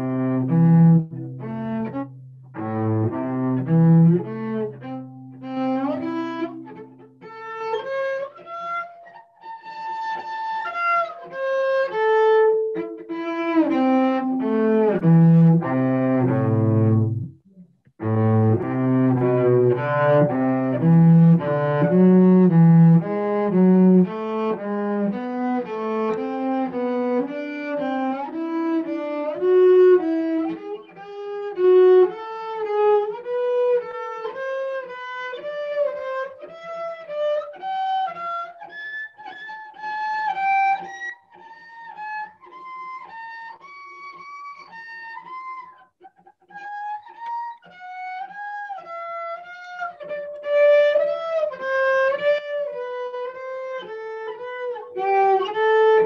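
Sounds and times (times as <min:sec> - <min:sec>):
bowed cello playing scales: 0:00.0 - 0:45.9, 0:46.5 - 0:56.0.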